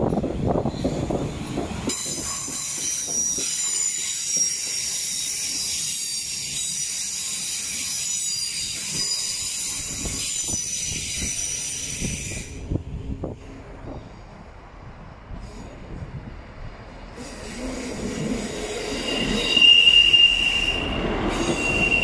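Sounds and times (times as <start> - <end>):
low train rumble: 0.0 - 22.0
train wheels squealing on rails: 0.1 - 14.6, 15.3 - 16.4, 17.0 - 22.0.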